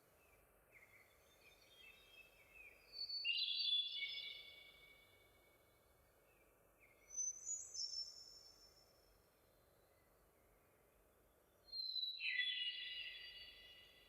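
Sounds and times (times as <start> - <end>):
faint background noise: 0.0 - 14.0
songbirds singing: 0.0 - 14.0.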